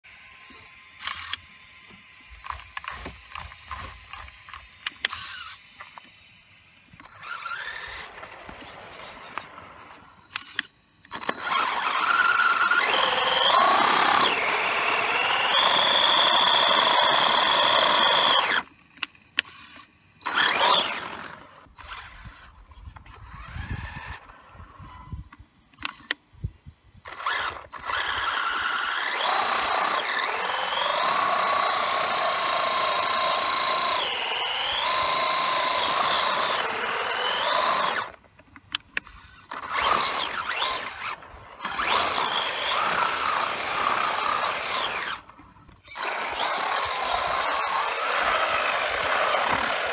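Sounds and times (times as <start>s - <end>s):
electric motor whining: 0.1s - 18.8s, 19.4s - 26.1s, 27.0s - 38.2s, 39.0s - 49.9s.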